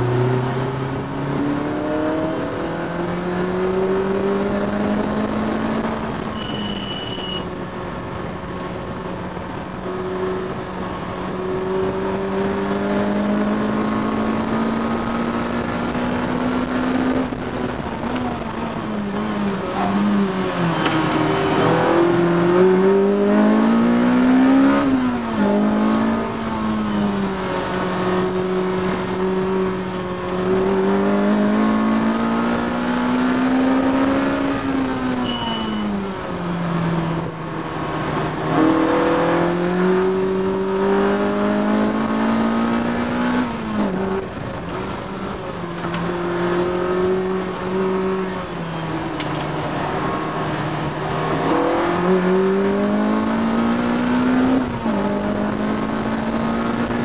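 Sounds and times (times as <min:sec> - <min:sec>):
car engine revving: 0:00.0 - 0:06.8, 0:07.9 - 0:57.0.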